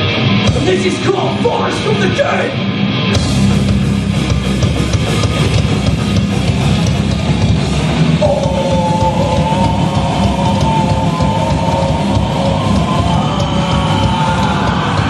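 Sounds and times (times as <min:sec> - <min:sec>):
drum kit: 0:00.0 - 0:15.0
electric guitars: 0:00.0 - 0:15.0.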